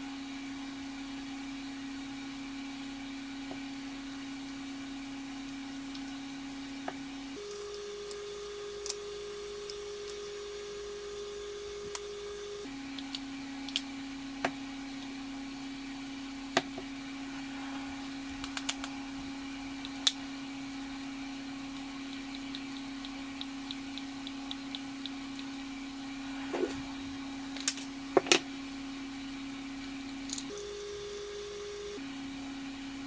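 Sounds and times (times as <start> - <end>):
steady hum: 2.9 - 33.0.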